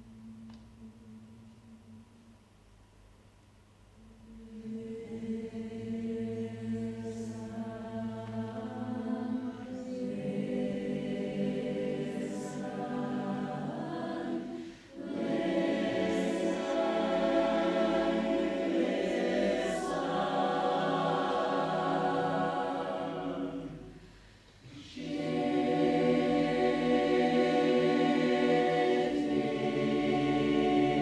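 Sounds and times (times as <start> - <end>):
choir singing sustained chords: 4.0 - 31.0.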